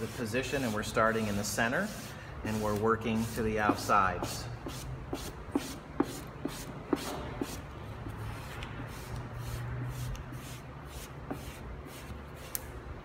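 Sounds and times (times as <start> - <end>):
squeegee rubbing over vinyl: 0.0 - 12.7.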